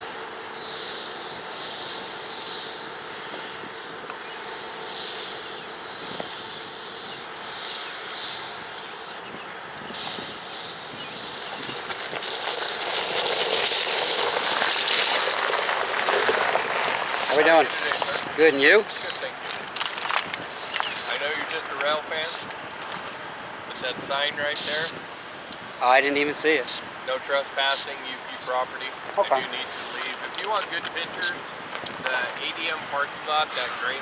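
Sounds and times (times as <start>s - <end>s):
diesel locomotive engine running: 0.0s - 34.0s.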